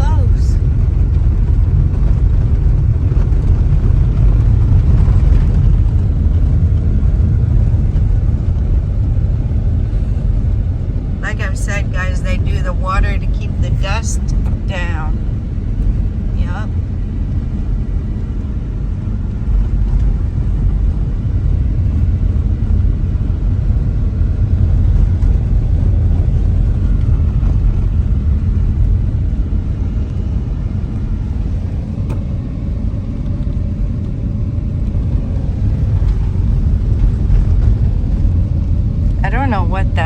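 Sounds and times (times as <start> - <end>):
car driving on road: 0.0 - 40.0.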